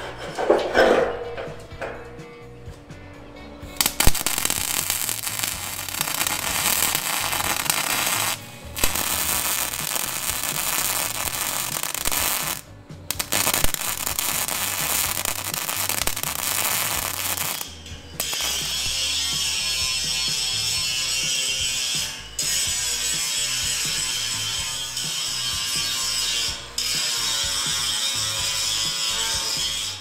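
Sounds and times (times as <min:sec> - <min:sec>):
arc welding crackling sizzle: 0:03.8 - 0:29.9.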